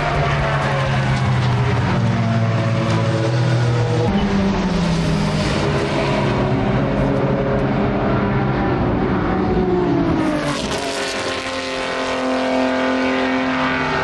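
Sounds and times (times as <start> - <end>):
racing car engines: 0.0 - 14.0.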